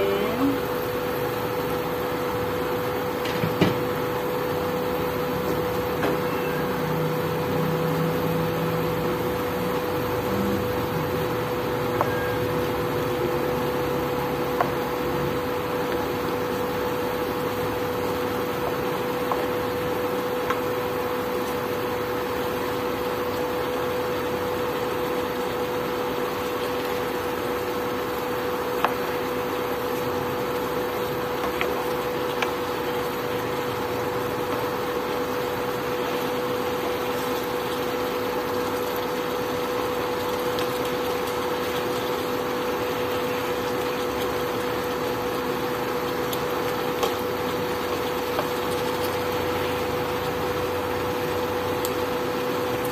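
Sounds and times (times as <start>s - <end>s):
induction cooktop hum: 0.0s - 52.9s.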